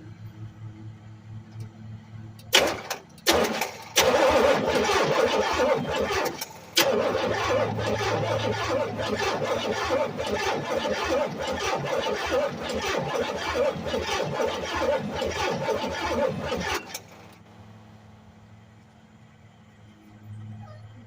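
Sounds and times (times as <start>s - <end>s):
engine running unevenly: 0.0s - 21.0s.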